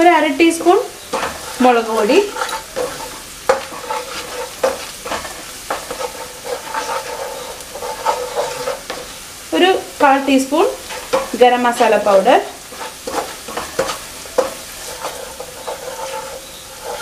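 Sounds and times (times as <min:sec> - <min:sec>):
spatula scraping a pan: 0:00.0 - 0:09.3, 0:10.4 - 0:17.0
onions sizzling in oil: 0:00.0 - 0:17.0.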